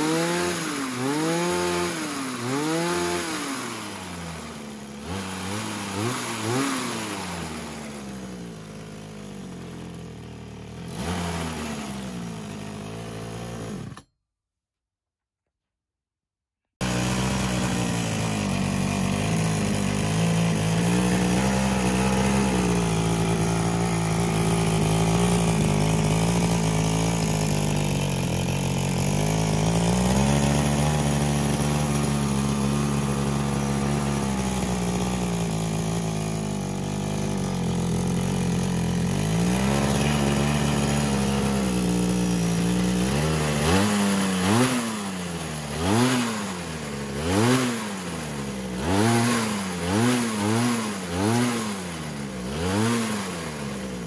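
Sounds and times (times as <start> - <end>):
hedge trimmer engine revving: 0.0 - 14.1, 16.8 - 54.0.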